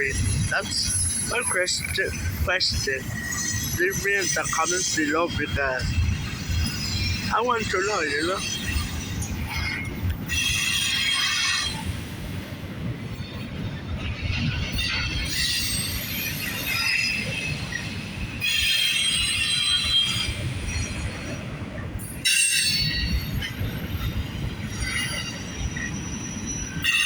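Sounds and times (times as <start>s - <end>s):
freight train rumble: 0.0s - 27.0s
train wheel squeal: 0.0s - 27.0s.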